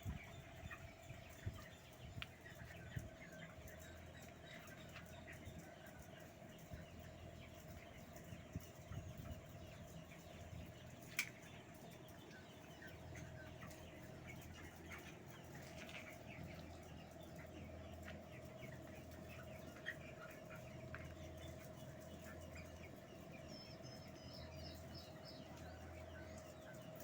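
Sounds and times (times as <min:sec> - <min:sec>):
chickens chirping: 0:00.0 - 0:27.0.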